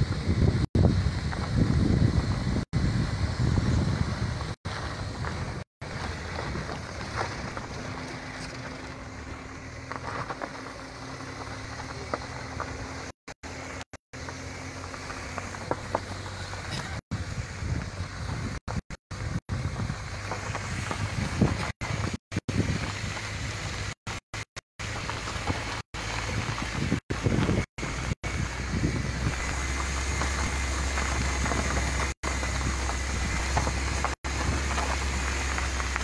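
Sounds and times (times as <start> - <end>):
wind buffeting microphone: 0.0 - 10.4, 15.4 - 24.0, 24.8 - 36.0
vehicle rumble: 0.0 - 36.0.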